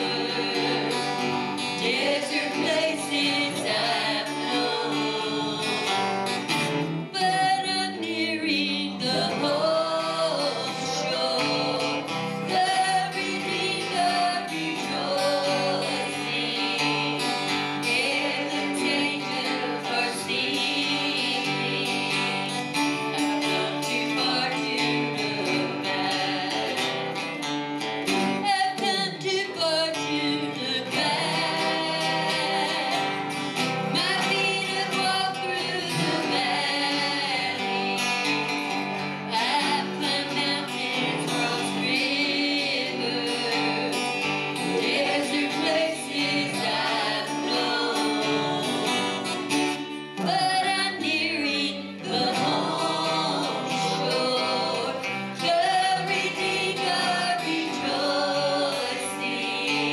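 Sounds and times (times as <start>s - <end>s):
group singing worship song: 0.0s - 59.9s
guitar accompaniment: 0.0s - 59.9s.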